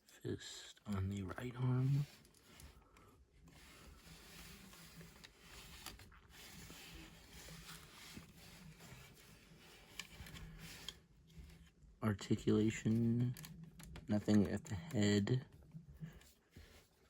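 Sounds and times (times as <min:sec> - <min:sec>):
soft handling rustles: 0:00.0 - 0:17.0.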